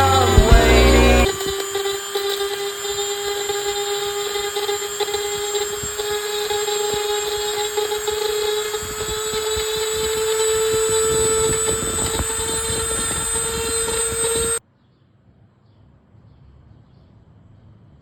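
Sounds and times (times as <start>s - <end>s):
electric power tool whining: 0.0s - 14.6s
scraping knocks: 0.0s - 14.6s.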